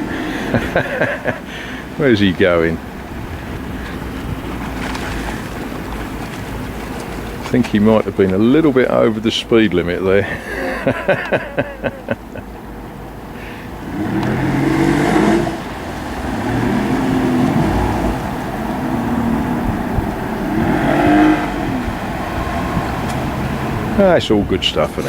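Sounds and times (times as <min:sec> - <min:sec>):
outboard motorboat passing: 0:00.0 - 0:25.0.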